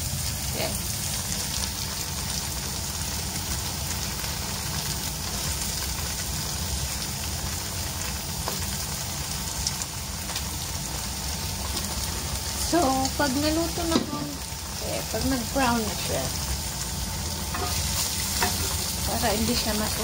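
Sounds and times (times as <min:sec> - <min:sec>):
tofu sizzling in oil: 0:00.0 - 0:20.0.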